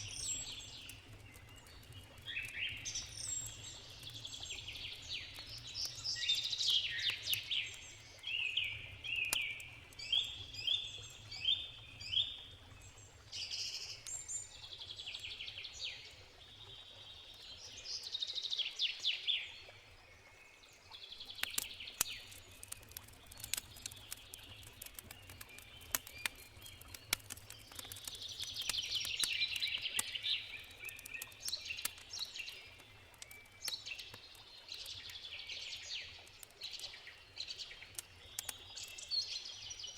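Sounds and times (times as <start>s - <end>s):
campfire crackling and popping: 0.0s - 17.7s, 20.9s - 39.9s
birds singing: 0.0s - 39.9s.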